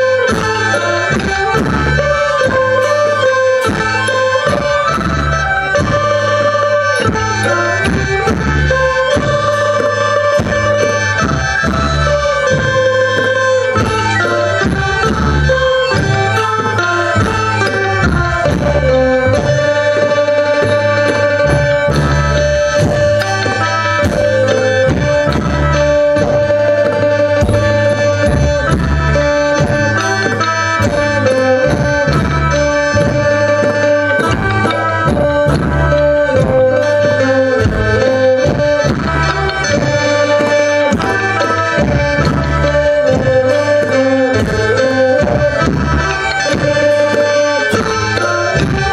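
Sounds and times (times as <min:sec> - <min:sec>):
reedy melody: 0:00.0 - 0:48.9
steady drumming: 0:00.0 - 0:48.9.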